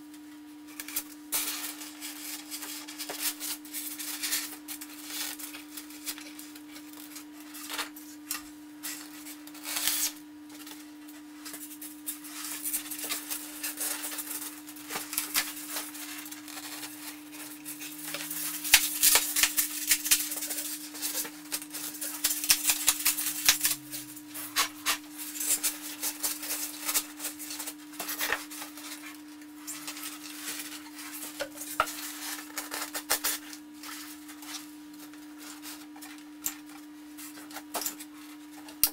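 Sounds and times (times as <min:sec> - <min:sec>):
styrofoam blocks rustling and scraping: 0:00.9 - 0:08.2, 0:11.4 - 0:36.2.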